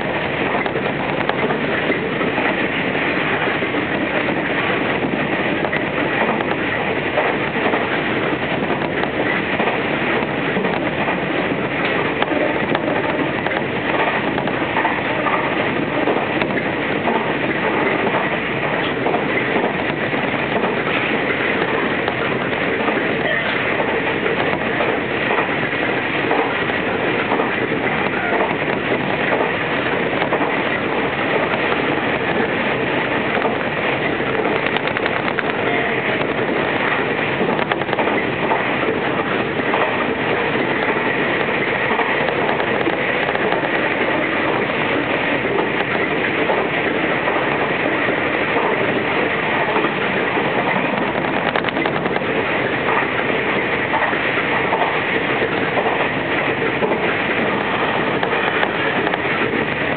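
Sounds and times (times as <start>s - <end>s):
electric train running at speed: 0.0s - 59.9s
wheels clicking over rail joints: 0.0s - 59.9s.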